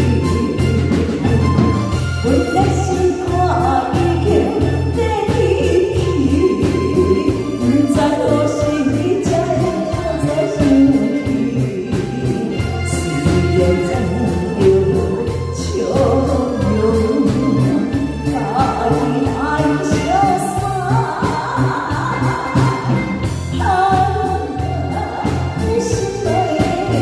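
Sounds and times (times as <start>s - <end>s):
band accompaniment with bass and drums: 0.0s - 27.0s
woman singing into a microphone: 0.0s - 27.0s.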